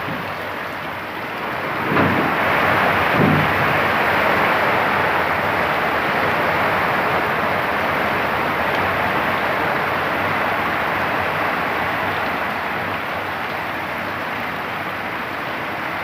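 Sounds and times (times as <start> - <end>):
rain pouring: 0.0 - 16.0.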